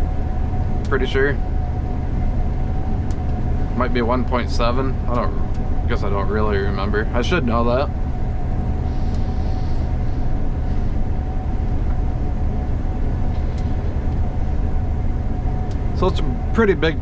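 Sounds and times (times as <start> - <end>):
combine harvester engine drone: 0.0 - 17.0
thin steady whine: 0.0 - 17.0.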